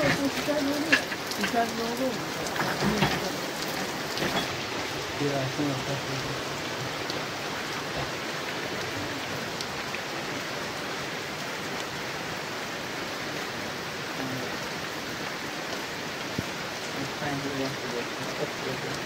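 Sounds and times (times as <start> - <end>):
steady rain on trees: 0.0 - 19.0.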